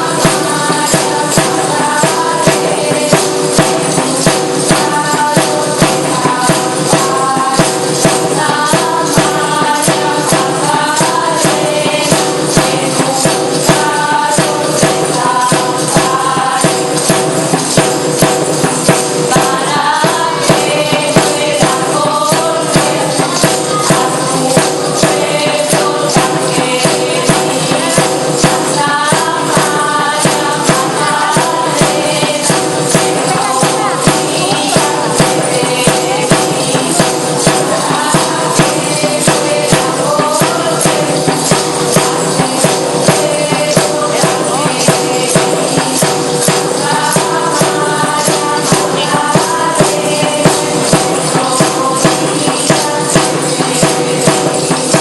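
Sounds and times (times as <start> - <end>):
tambourine jingles: 0.0 - 55.0.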